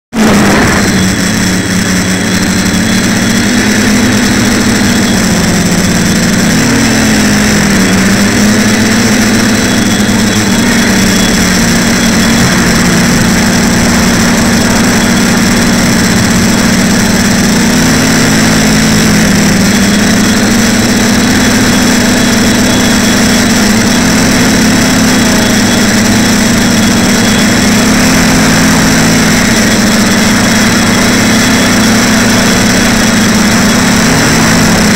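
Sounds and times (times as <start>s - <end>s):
quadcopter motors droning: 0.1s - 34.9s
rush of air noise: 0.1s - 34.9s.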